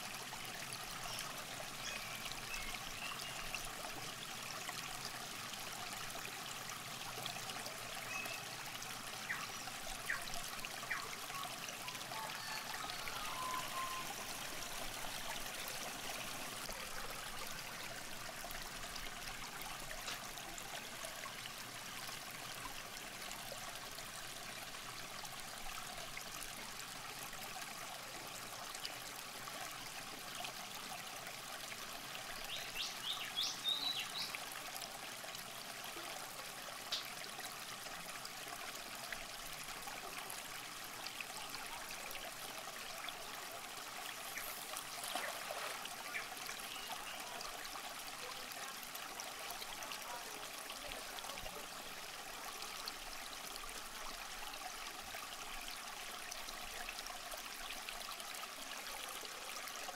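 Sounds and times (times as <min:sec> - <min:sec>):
river water trickling: 0:00.0 - 0:59.9.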